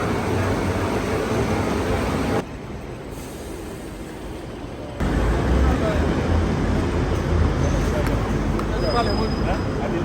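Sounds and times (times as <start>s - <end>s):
train rumbling in motion: 0.0s - 10.0s.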